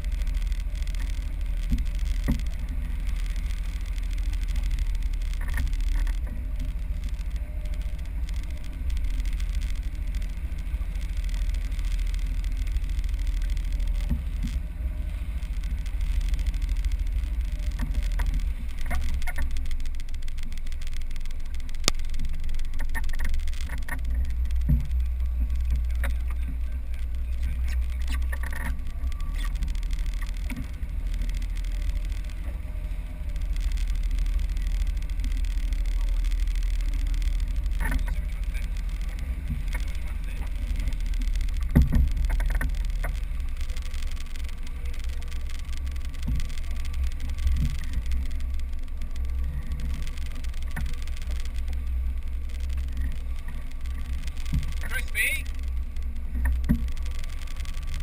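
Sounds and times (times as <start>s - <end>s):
outboard motor rumble: 0.0s - 58.0s
water slapping hull: 0.0s - 58.0s.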